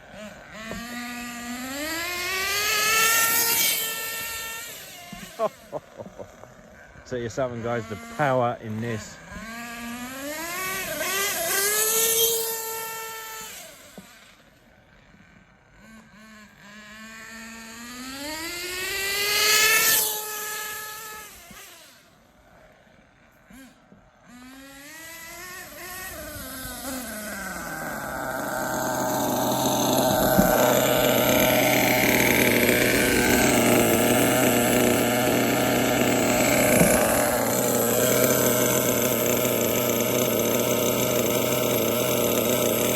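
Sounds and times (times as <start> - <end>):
small nitro engine revving: 0.0 - 42.9.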